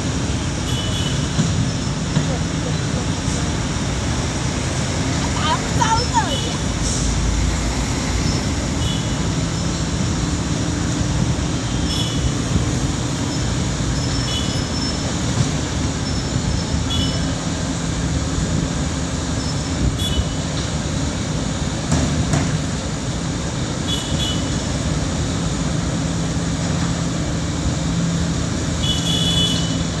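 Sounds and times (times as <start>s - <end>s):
heavy machinery engine drone: 0.0s - 30.0s.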